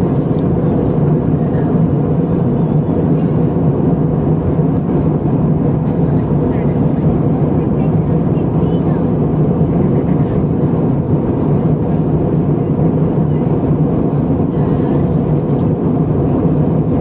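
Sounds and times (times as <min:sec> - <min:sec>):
airliner cabin engine drone: 0:00.0 - 0:17.0.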